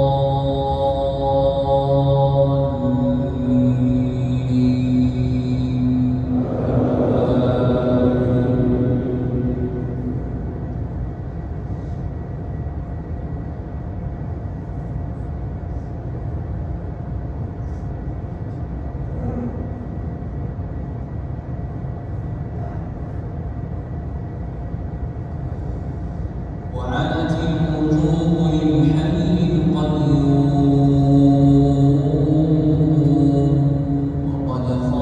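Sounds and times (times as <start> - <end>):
faint steady whine: 0.0 - 35.0
low hum of fans: 0.0 - 35.0.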